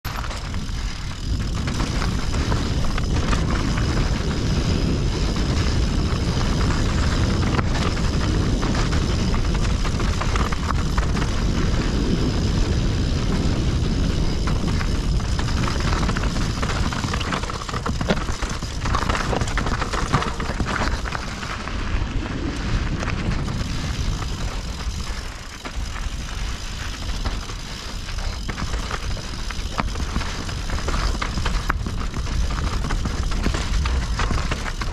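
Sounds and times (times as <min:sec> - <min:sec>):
bike knocks and rattles: 0:00.0 - 0:22.0, 0:22.6 - 0:34.9
bicycle tyre noise: 0:00.0 - 0:34.9
wind rumble on microphone: 0:00.0 - 0:34.9.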